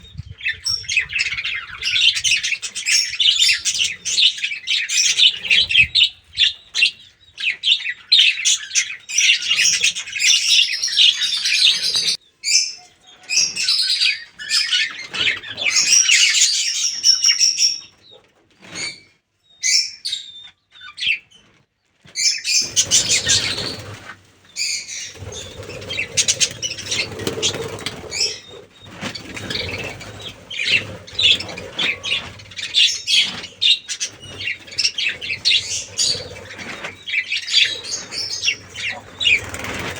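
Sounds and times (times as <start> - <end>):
budgerigars chattering: 0.4 - 16.8, 22.5 - 39.9.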